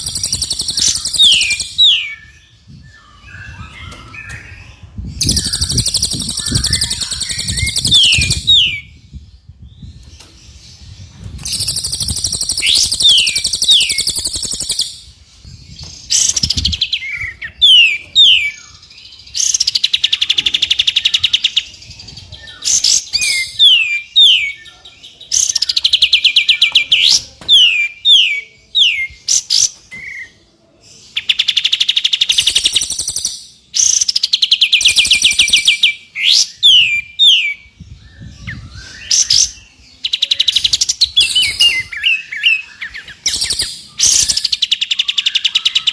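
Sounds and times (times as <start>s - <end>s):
songbird trills and whistles: 0.0s - 30.4s, 31.2s - 45.9s.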